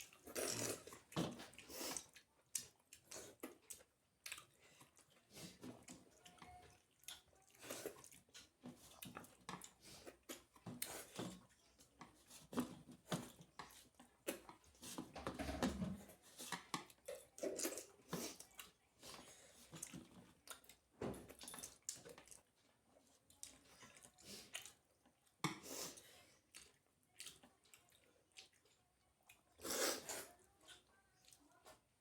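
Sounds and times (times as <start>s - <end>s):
person chewing food: 0.0s - 32.0s.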